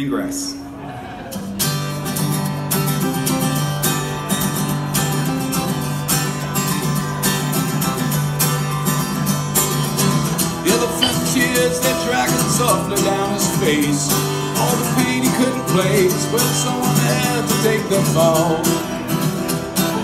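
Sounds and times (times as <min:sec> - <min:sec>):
acoustic guitar strumming: 0:01.3 - 0:20.0
mandolin: 0:01.4 - 0:20.0.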